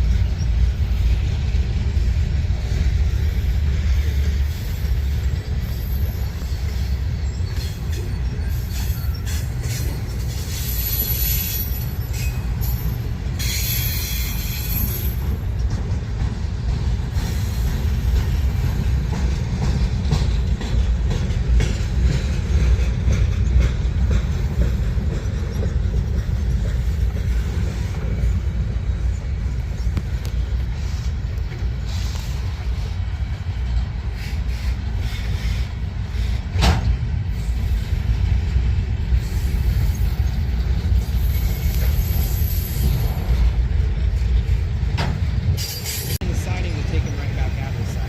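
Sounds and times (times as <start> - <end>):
train rumbling past: 0.0 - 48.0
train wheel squeals: 0.0 - 48.0.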